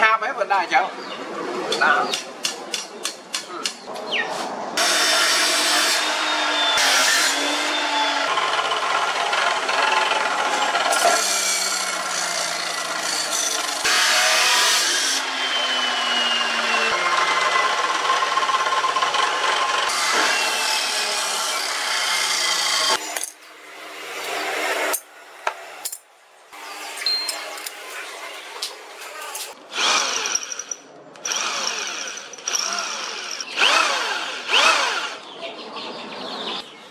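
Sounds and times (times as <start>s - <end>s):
cut-off saw grinding steel: 4.8s - 26.0s, 26.6s - 35.2s.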